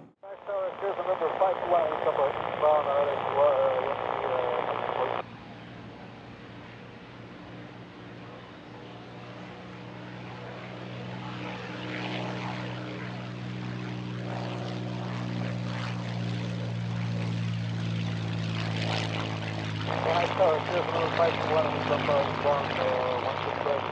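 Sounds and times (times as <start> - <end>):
propeller airplane engine drone: 0.0 - 23.9.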